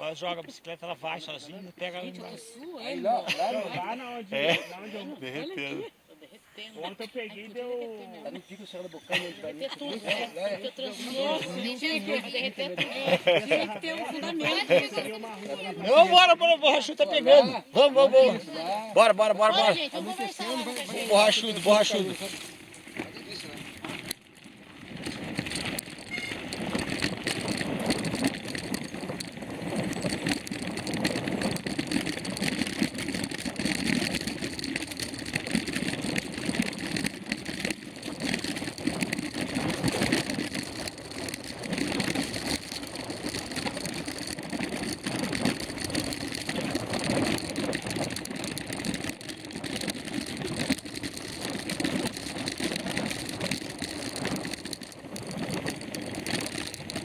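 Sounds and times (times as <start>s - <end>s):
bike tyres rumbling on dirt trail: 9.1s - 57.0s.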